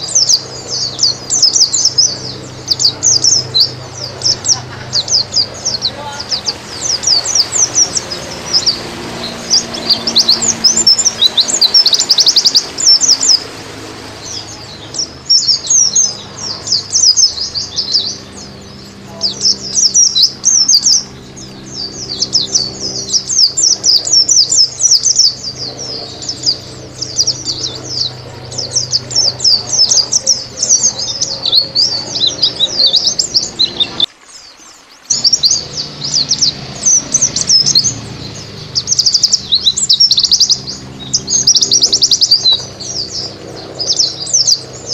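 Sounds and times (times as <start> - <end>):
high-pitched bird twittering: 0.0 - 13.6, 14.2 - 34.1, 35.0 - 44.9.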